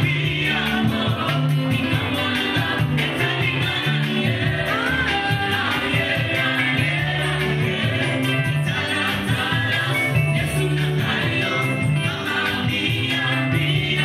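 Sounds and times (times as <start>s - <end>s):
band with keyboard and bass: 0.0s - 14.0s
women singing gospel: 0.0s - 14.0s.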